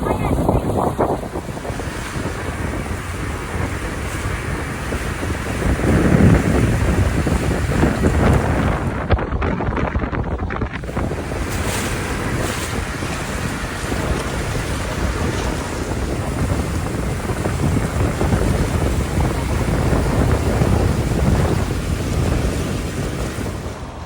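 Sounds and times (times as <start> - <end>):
boat engine rumble: 0.0 - 24.0
water: 0.0 - 24.0
wind buffeting microphone: 0.0 - 24.0.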